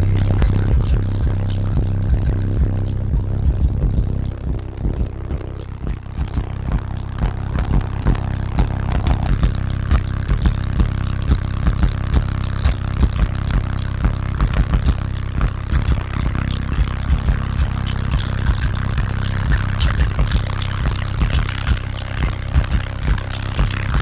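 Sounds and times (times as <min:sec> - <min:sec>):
bass-heavy music from car subwoofers: 0:00.0 - 0:24.0.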